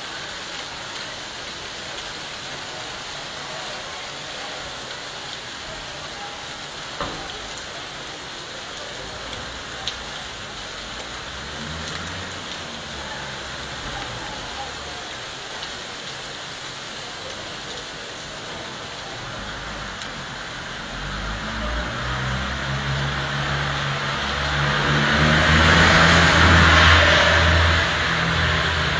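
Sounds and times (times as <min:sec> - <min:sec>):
hail and rain pattering: 0:00.0 - 0:28.9.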